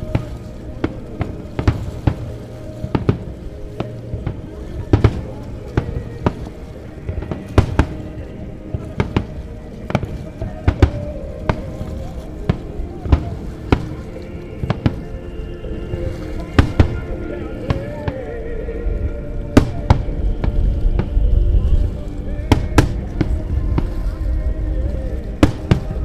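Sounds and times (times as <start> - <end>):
music: 0.0 - 26.0.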